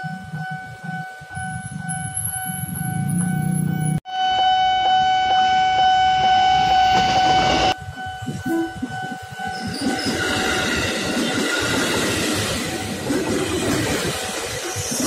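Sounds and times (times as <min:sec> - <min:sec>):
level-crossing warning bell: 0:00.0 - 0:14.6
electric train rumbling: 0:00.0 - 0:15.0.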